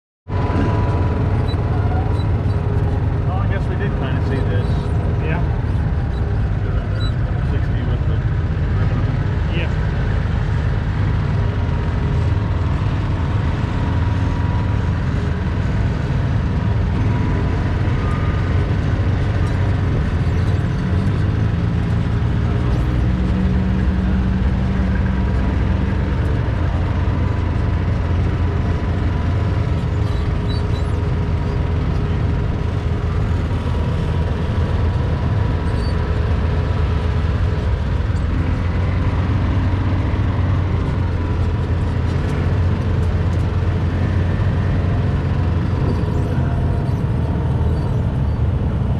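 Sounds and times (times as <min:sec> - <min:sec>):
vehicle motor running: 0:00.3 - 0:48.9.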